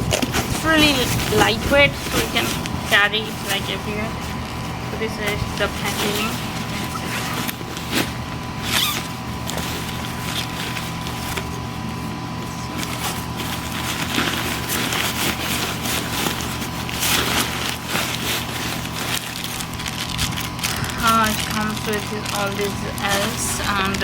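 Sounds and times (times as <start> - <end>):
packaging rustling: 0.0 - 24.0
steady low hum: 0.0 - 24.0.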